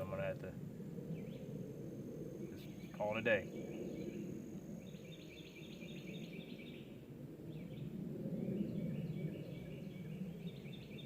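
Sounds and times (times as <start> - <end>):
faint thin high whine: 0.0 - 11.0
high chirping of insects or birds: 0.0 - 11.0.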